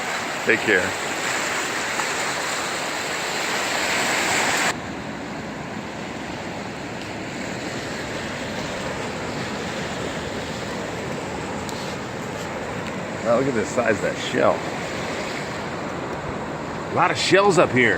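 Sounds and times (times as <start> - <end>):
ocean surf washing on shore: 0.0 - 17.9.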